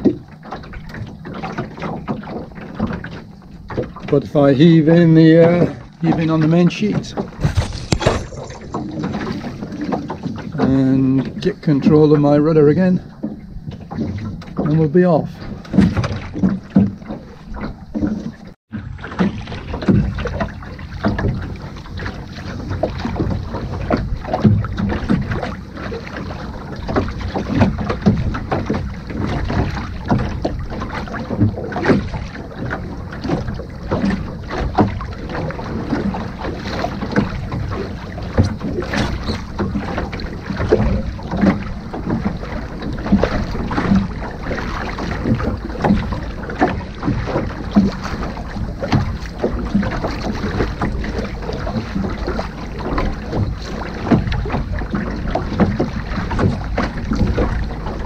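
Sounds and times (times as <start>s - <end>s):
water splashing along a hull: 0.0s - 58.0s
wind buffeting microphone: 1.7s - 58.0s.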